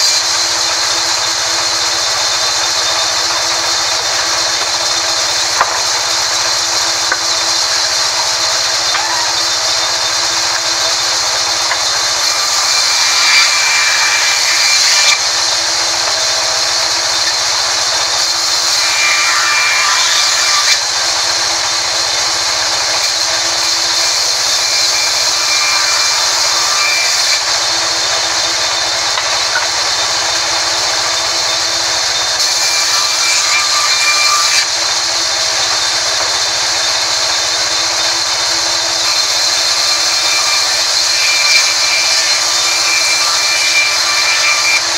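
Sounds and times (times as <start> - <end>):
band saw cutting log: 0.0 - 44.9.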